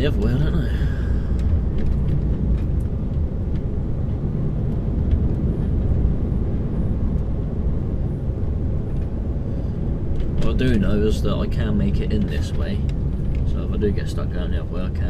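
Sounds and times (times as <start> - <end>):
diesel lorry engine rumble: 0.0 - 15.0
road noise: 0.0 - 15.0.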